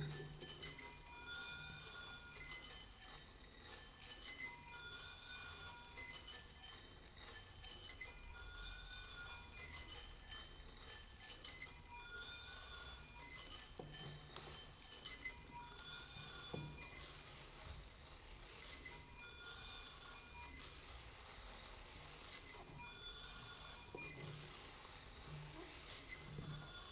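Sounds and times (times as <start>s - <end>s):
ceramic bowls ringing: 0.0s - 18.0s, 18.6s - 20.9s, 22.3s - 26.9s.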